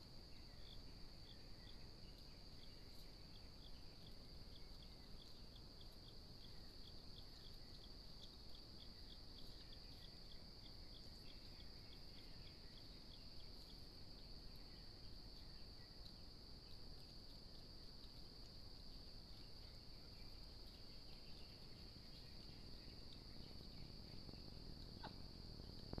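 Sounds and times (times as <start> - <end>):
insect-like ticking: 0.5 - 26.0.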